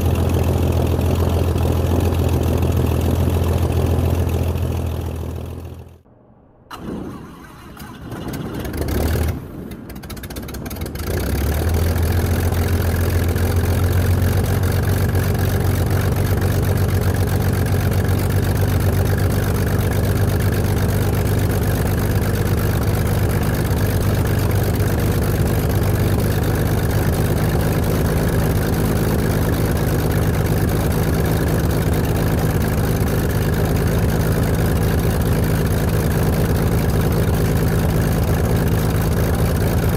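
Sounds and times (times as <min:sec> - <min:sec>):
aircraft engine running: 0:00.0 - 0:06.1, 0:06.7 - 0:39.9.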